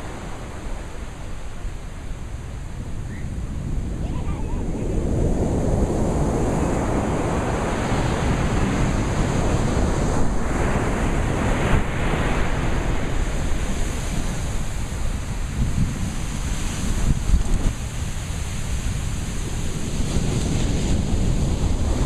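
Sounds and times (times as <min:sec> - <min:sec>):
ocean waves rushing: 0:00.0 - 0:22.0.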